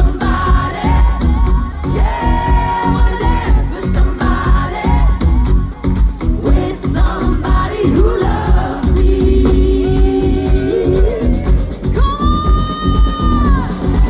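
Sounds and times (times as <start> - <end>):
pounding dance beat: 0.0 - 14.0.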